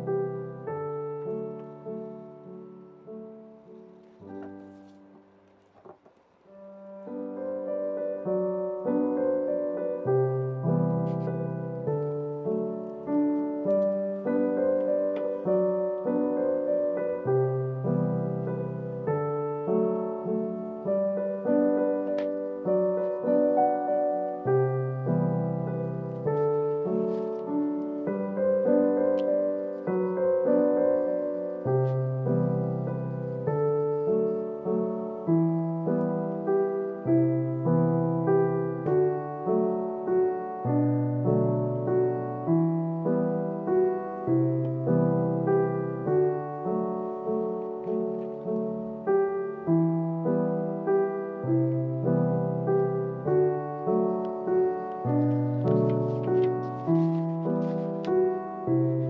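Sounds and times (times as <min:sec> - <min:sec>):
slow piano melody: 0:00.0 - 0:59.0.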